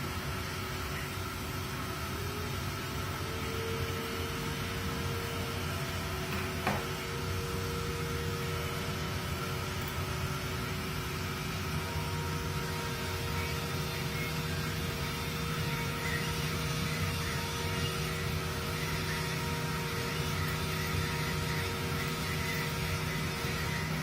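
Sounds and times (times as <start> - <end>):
milling machine whirring: 0.0 - 24.0.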